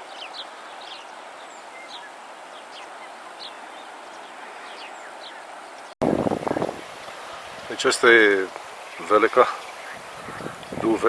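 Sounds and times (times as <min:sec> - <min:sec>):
small birds chirping: 0:00.0 - 0:11.0
steady outdoor hiss: 0:00.0 - 0:11.0.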